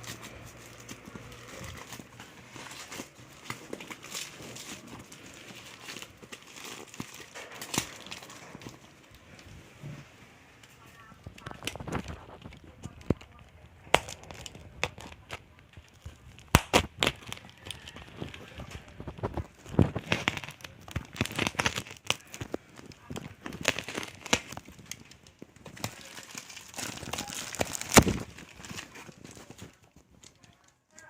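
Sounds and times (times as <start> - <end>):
plastic and paper crinkling: 0.0 - 31.0.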